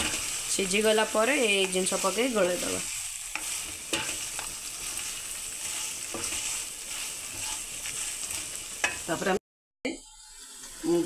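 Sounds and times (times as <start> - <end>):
spatula scraping a pan: 0.0 - 9.3
vegetables sizzling in a pan: 0.0 - 11.0.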